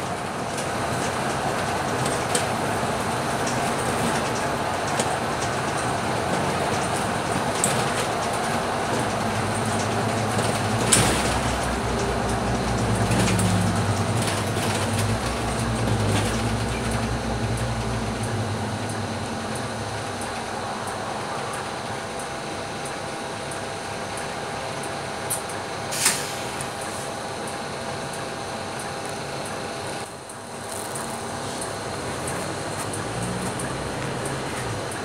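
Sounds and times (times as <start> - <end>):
bus diesel engine droning: 0.0 - 35.0
road and cabin noise: 0.0 - 35.0.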